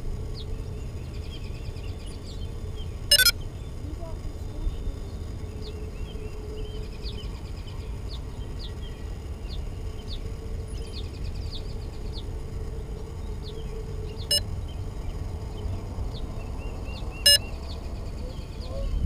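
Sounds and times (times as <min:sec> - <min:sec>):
faint hum: 0:00.0 - 0:19.0
small birds chirping: 0:00.0 - 0:19.0.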